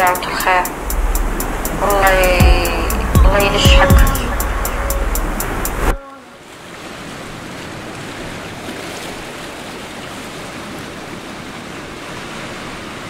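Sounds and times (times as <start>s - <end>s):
sea waves and surf: 0.0s - 13.0s.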